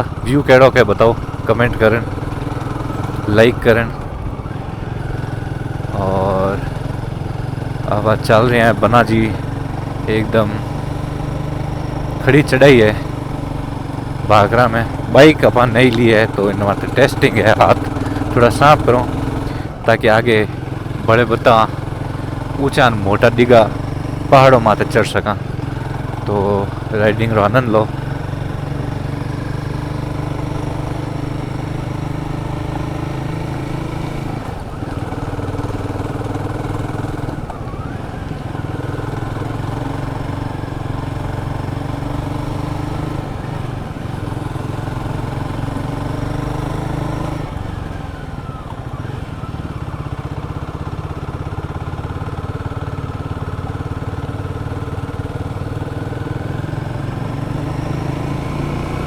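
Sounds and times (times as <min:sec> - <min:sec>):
motorcycle engine under load: 0:00.0 - 0:59.0.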